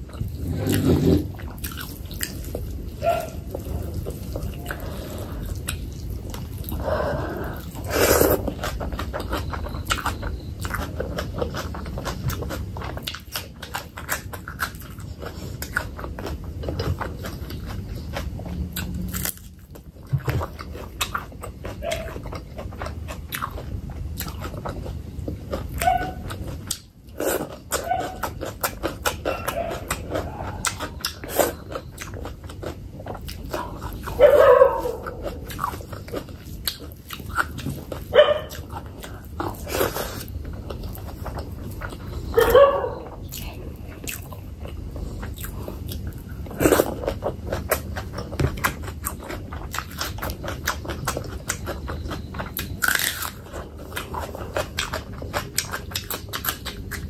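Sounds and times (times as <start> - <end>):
wet chewing and smacking: 0.0 - 57.0.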